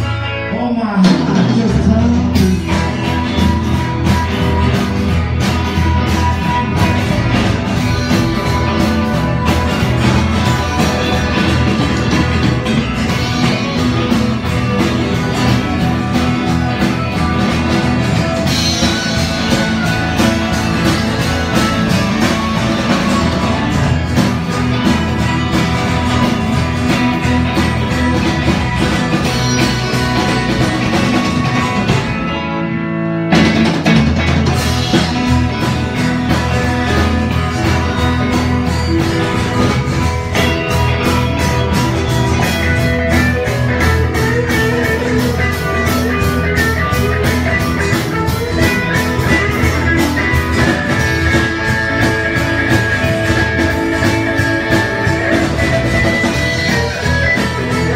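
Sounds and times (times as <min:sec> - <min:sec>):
drum kit: 0:00.0 - 0:57.9
guitars: 0:00.0 - 0:57.9.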